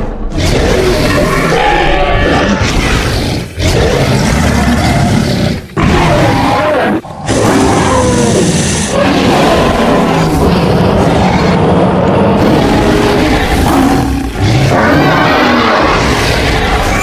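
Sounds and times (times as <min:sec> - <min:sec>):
dinosaur roars: 0:00.0 - 0:17.0.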